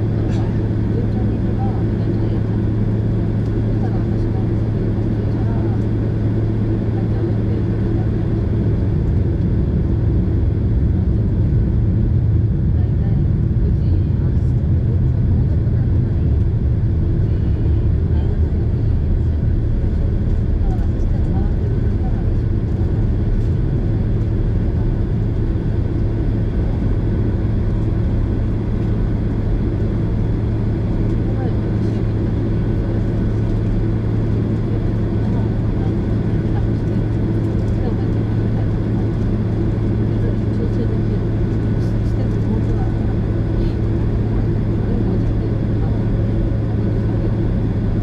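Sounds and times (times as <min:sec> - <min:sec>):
airplane cabin engine rumble: 0:00.0 - 0:48.0.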